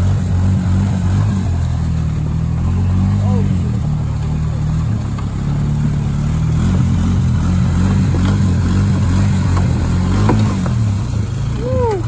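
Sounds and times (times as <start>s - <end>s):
engine revving under load: 0.0s - 12.0s
wheels churning water: 0.0s - 12.0s.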